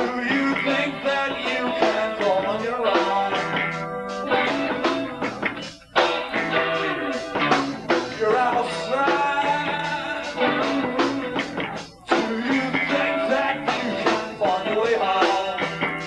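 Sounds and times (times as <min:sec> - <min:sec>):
person singing: 0:00.0 - 0:05.2, 0:06.5 - 0:16.0
bass guitar: 0:00.0 - 0:16.0
drums: 0:00.0 - 0:16.0
electric guitar: 0:00.0 - 0:16.0.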